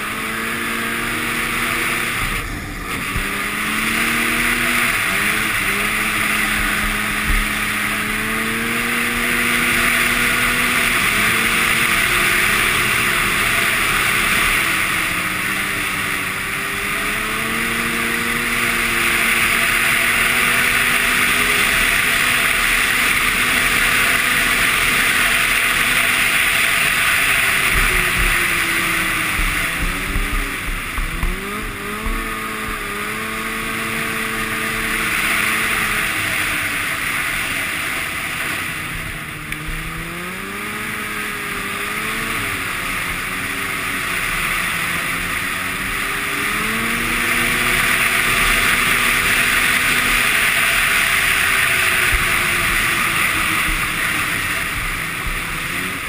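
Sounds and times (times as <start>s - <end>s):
hiss of track and wind: 0.0s - 56.0s
snowmobile engine running: 0.0s - 56.0s.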